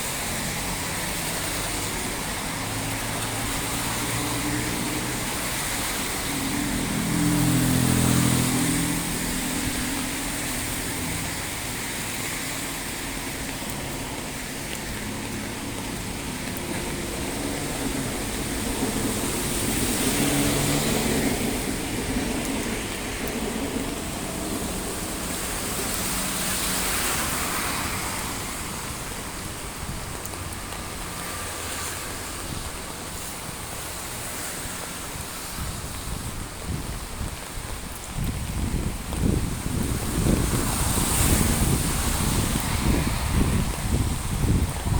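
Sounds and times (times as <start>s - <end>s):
cars passing on wet road: 0.0s - 44.9s
heavy rain on street: 0.0s - 44.9s.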